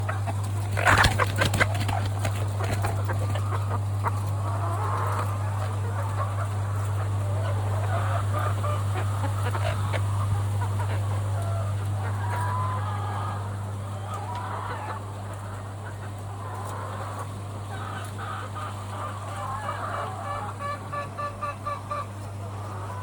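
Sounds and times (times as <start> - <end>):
chickens clucking: 0.0 - 23.0
steady low hum: 0.0 - 23.0.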